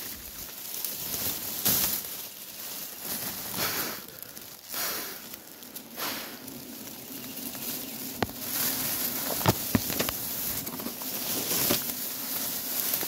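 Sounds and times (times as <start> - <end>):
dry grass rustling and crackling: 0.0 - 13.0.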